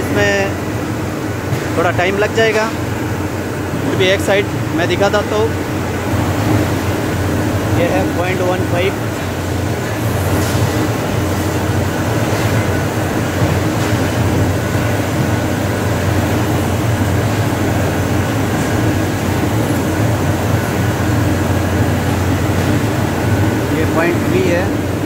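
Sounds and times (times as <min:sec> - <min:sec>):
machinery droning with low hum: 0:00.0 - 0:25.0.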